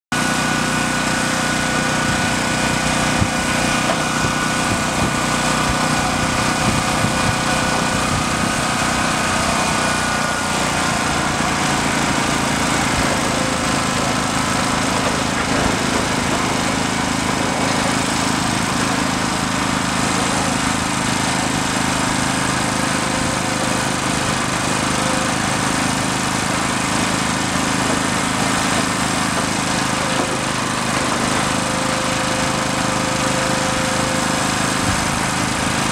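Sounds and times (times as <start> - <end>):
crane engine droning: 0.2 - 35.9.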